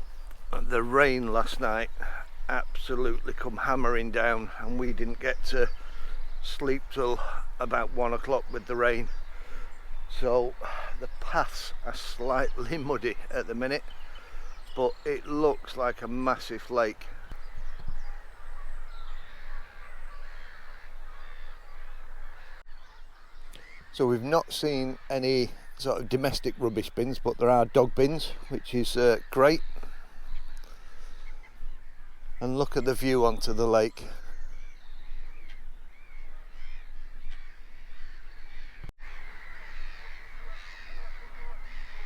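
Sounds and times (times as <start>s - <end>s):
harsh crow-like bird calls: 3.0s - 26.3s, 27.4s - 32.6s, 33.6s - 42.0s.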